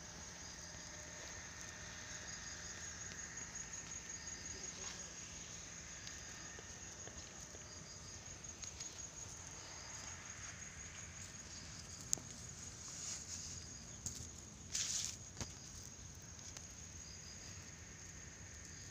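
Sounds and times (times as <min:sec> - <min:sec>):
insects chirping: 0:00.0 - 0:18.9.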